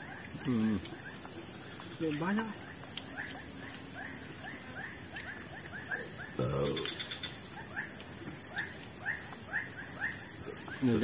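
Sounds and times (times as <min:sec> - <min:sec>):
bird chirping: 0:00.0 - 0:11.0
insects buzzing: 0:00.0 - 0:11.0.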